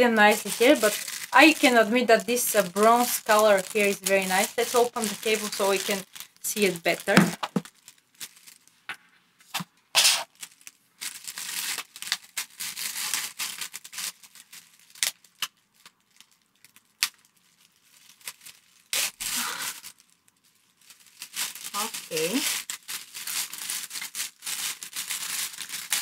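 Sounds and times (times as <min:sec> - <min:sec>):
plastic bag crinkling: 0:00.0 - 0:08.7, 0:10.2 - 0:26.0.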